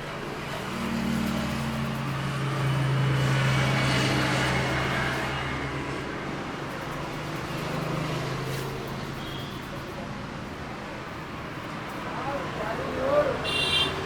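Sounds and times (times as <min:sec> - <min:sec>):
street traffic: 0:00.0 - 0:14.0
vehicle engine humming: 0:00.1 - 0:14.0.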